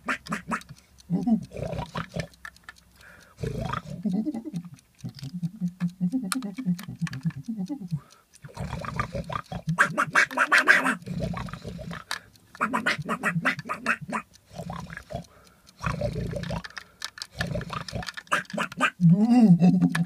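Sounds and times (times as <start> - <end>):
person making animal-like noises: 0.0 - 2.4, 3.4 - 20.0.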